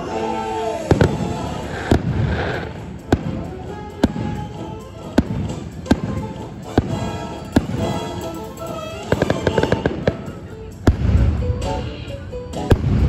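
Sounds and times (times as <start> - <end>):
music: 0.0 - 13.0
fireworks bangs: 0.3 - 13.0.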